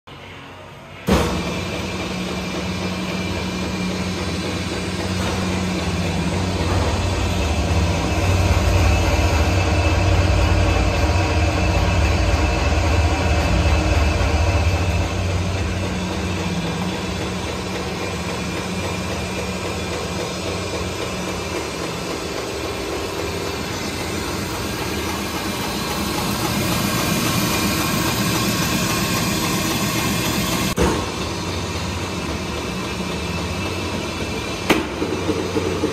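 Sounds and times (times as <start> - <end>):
mixer grinder motor hum: 1.1 - 35.9.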